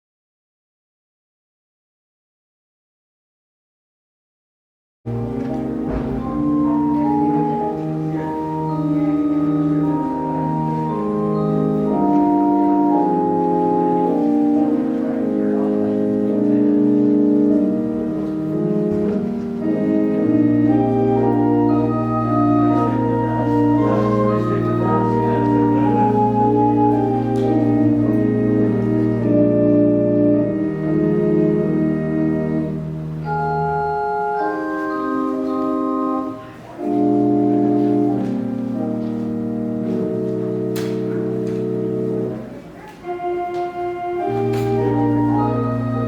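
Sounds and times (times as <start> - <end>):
organ playing sustained chords: 5.1 - 46.0.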